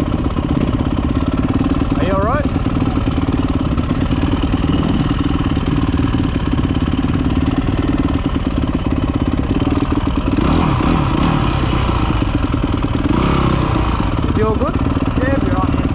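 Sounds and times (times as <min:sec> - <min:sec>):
dirt bike engine running: 0:00.0 - 0:15.9.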